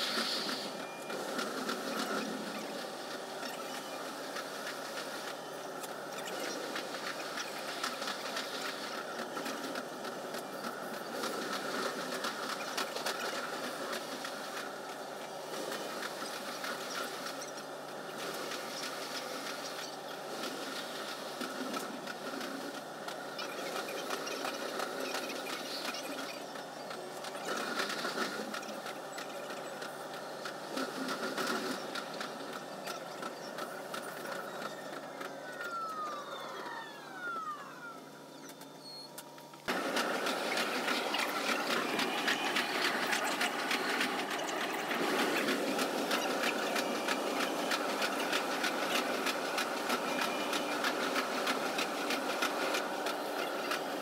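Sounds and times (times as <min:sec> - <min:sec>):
electric train running clatter: 0:00.0 - 0:54.0.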